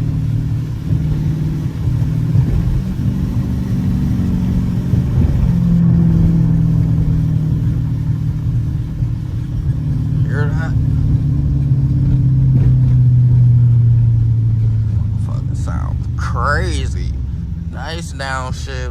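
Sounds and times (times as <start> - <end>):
car engine droning: 0.0 - 18.9.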